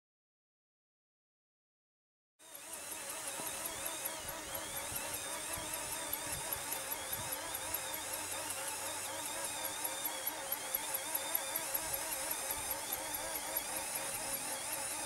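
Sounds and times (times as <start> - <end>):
electric motor whine: 2.4 - 15.0.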